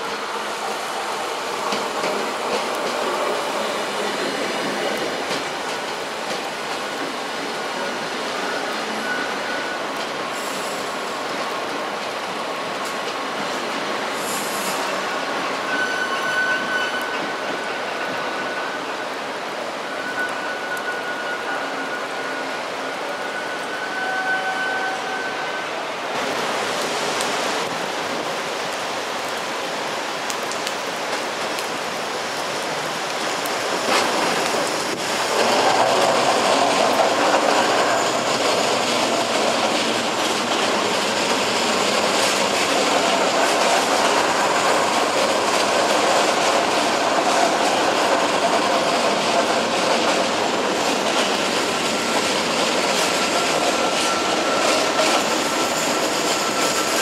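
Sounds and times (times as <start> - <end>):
passenger trains rolling past: 0.0 - 57.0.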